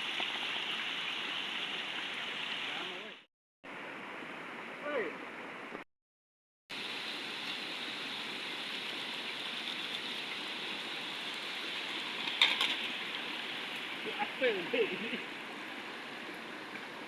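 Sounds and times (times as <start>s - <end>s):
stream water rushing: 0.0s - 5.5s, 6.7s - 17.0s.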